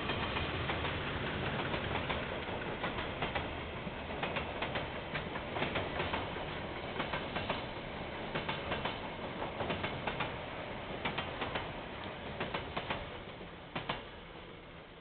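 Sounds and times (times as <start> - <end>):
wheels clicking over rail joints: 0.0 - 10.4, 11.0 - 14.1
train wagons rumbling: 0.0 - 14.2.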